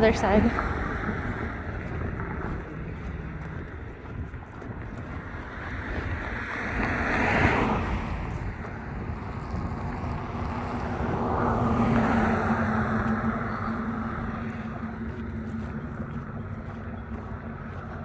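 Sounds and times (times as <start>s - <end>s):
cars passing: 0.0s - 18.0s
vehicle engine hum: 0.0s - 18.0s.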